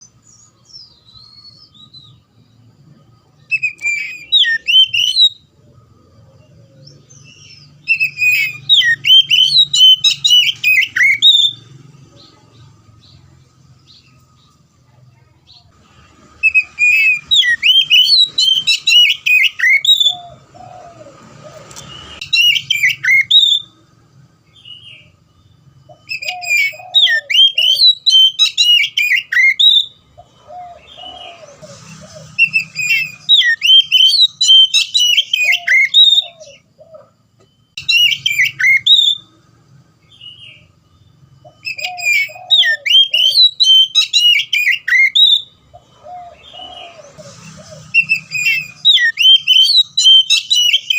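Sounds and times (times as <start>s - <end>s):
bird singing whistled notes: 0.0s - 14.6s, 15.5s - 23.8s, 24.4s - 50.9s.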